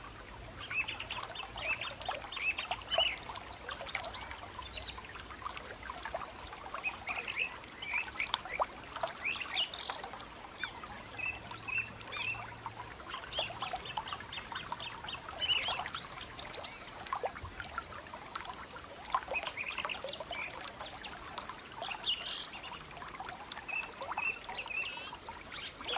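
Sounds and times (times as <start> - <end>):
faint trickle of running water: 0.0 - 25.9.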